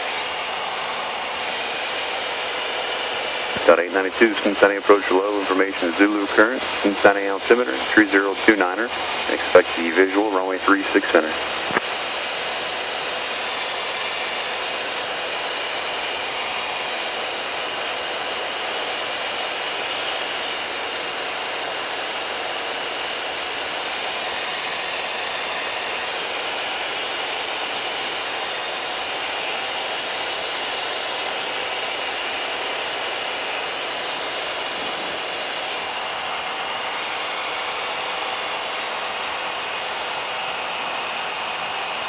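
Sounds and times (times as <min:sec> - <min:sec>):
aircraft engine and propeller drone: 0:00.0 - 0:42.0.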